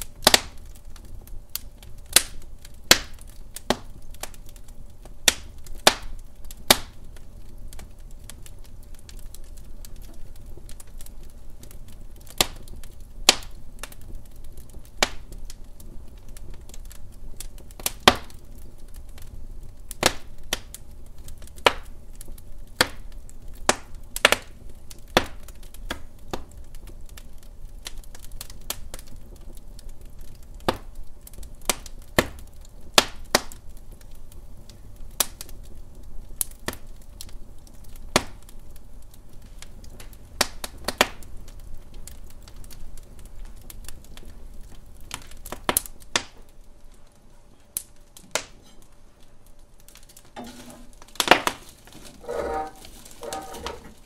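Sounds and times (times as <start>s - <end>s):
low rumble of flames: 0.0s - 54.0s
wood fire popping and snapping: 0.0s - 54.0s.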